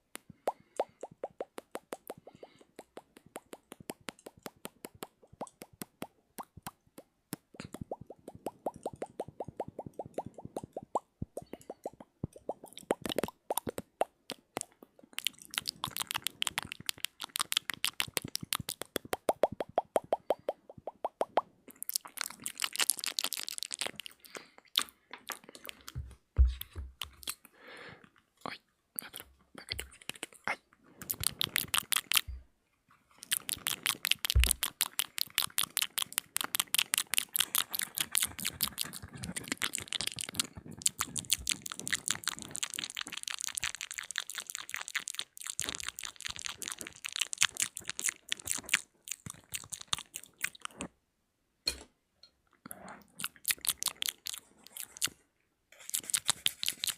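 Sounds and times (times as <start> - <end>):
wet mouth clicks and smacks: 0.0 - 27.6, 28.4 - 32.4, 33.2 - 50.9, 53.0 - 55.2, 55.8 - 56.9.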